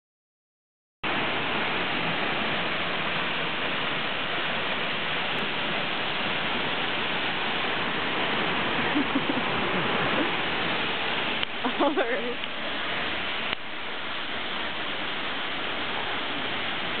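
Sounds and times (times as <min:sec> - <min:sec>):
waterfall rushing: 0:01.0 - 0:17.0.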